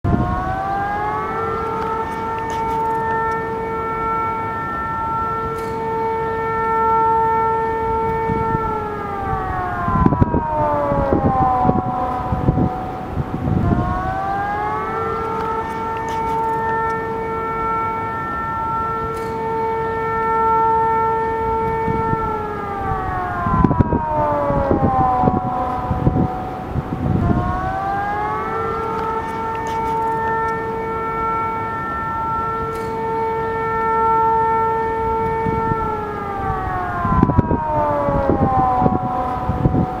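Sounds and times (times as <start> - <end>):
low rumbling noise: 0.0 - 40.0
warning siren wailing: 0.0 - 40.0.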